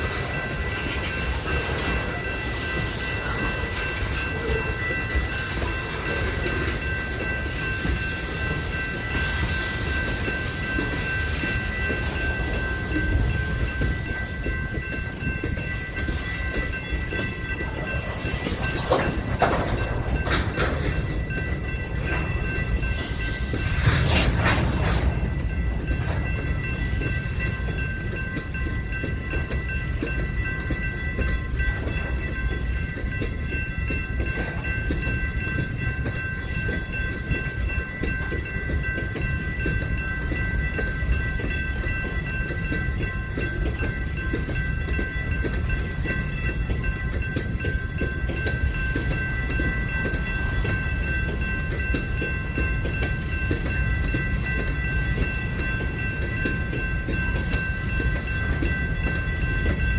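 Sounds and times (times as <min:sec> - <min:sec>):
high steady ringing tones: 0:00.0 - 0:59.9
train wheels rumbling on rails: 0:00.0 - 0:59.9.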